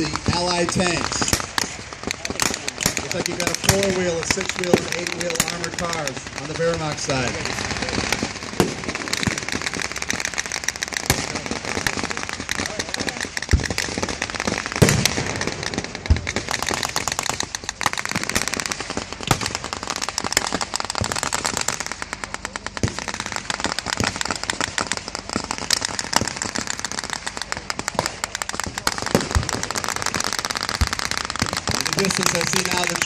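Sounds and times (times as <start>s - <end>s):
machine-gun and small-arms shots: 0.0s - 33.0s.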